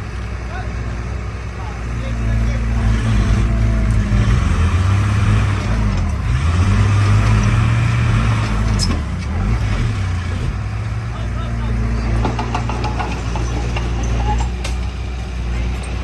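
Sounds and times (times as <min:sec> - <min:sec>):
heavy diesel engines labouring: 0:00.0 - 0:16.0.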